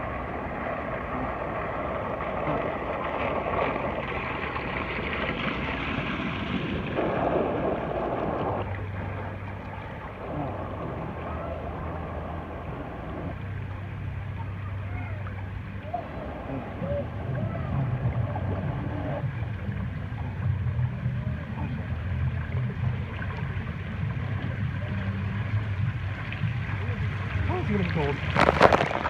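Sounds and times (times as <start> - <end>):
low hum: 0.0 - 29.0
rushing churning water: 0.0 - 29.0.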